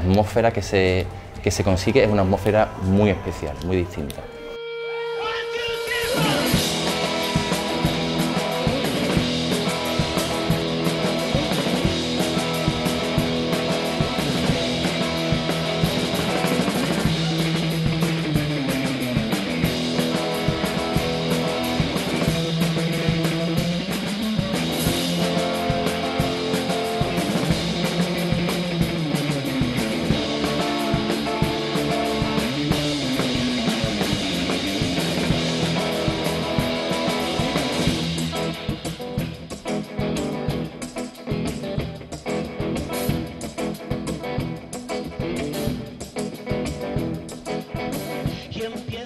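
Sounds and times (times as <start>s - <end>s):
electric guitar: 3.2s - 49.0s
drum kit beat: 5.8s - 49.0s.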